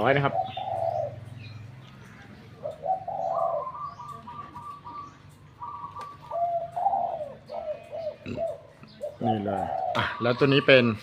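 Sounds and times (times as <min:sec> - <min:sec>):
doves cooing: 0:00.0 - 0:11.0.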